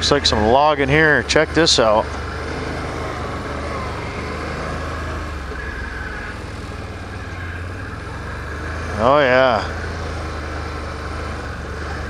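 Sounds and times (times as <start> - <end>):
atv engine droning: 0.0 - 12.0.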